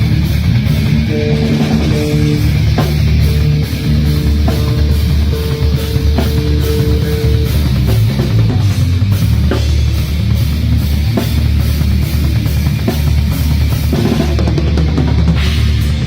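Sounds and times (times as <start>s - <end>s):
bass guitar: 0.0s - 16.0s
distorted electric guitar: 0.0s - 16.0s
drum kit: 0.0s - 16.0s.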